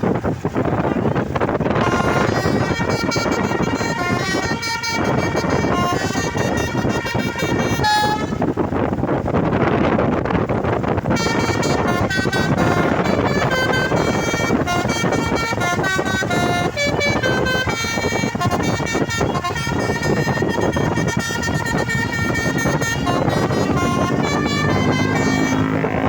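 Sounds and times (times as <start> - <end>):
steady engine rumble: 0.0 - 26.0
musical truck horn melody: 0.8 - 8.8, 10.9 - 26.0.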